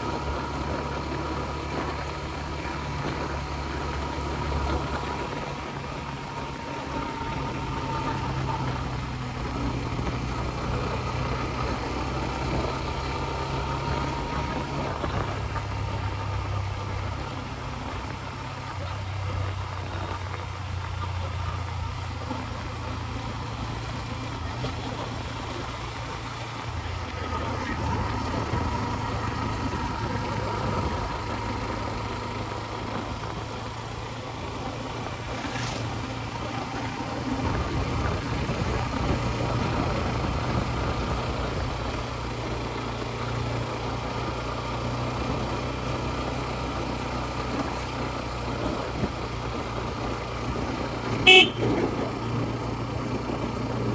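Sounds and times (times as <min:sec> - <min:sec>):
motorbike engine running: 0:00.0 - 0:53.9
road and wind noise: 0:00.0 - 0:53.9.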